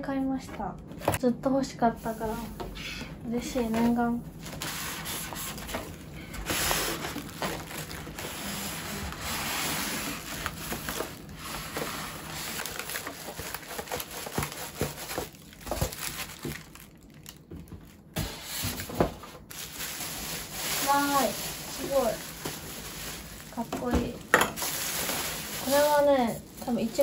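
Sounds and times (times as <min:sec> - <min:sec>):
cardboard and foam rustling: 0:02.0 - 0:02.7, 0:03.3 - 0:27.0
plastic wrapping crinkling: 0:04.4 - 0:27.0.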